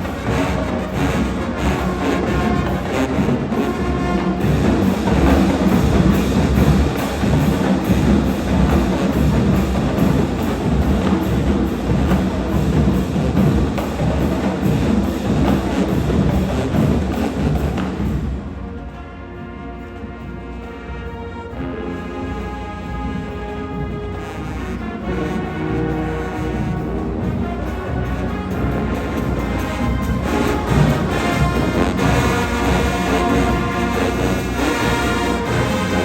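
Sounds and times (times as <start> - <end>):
drumline beating rhythm: 0.0 - 36.0
marching band playing: 0.0 - 36.0.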